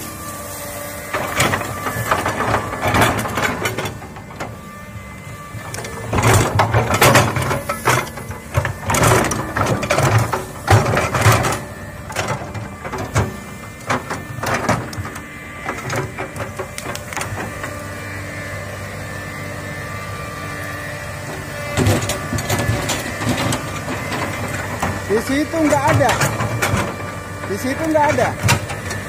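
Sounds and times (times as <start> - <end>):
excavator engine and hydraulics: 0.0 - 29.0.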